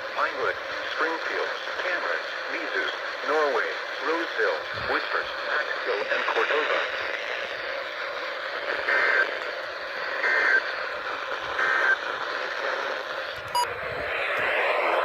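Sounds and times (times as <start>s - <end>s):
radio receiver hiss: 0.0s - 15.0s.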